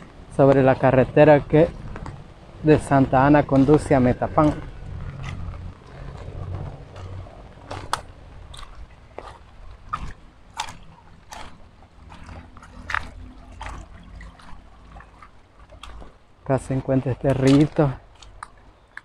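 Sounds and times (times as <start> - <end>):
wind rumble on microphone: 0.0 - 18.9
footsteps crunching on wet stones: 0.0 - 19.0.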